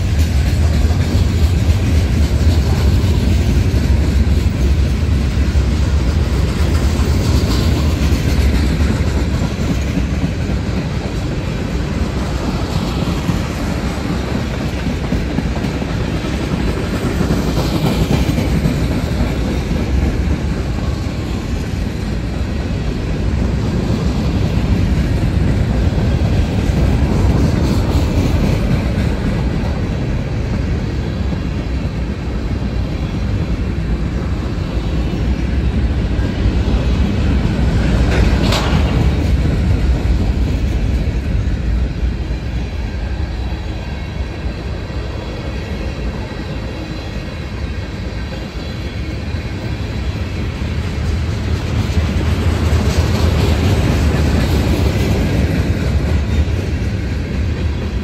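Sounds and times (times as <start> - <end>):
freight train cars rumbling past: 0.0 - 58.0.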